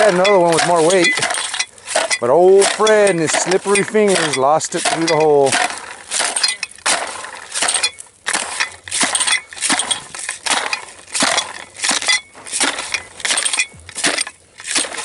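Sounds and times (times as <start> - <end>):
blade crunching into ice: 0.0 - 15.0.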